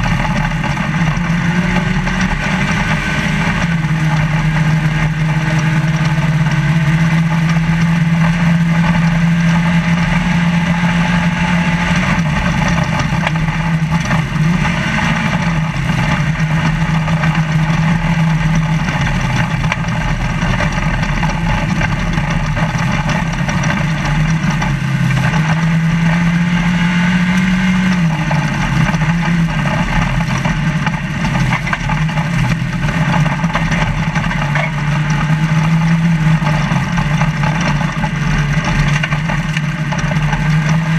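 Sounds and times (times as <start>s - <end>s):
road and chassis noise: 0.0s - 40.9s
truck engine running hard: 0.0s - 40.9s.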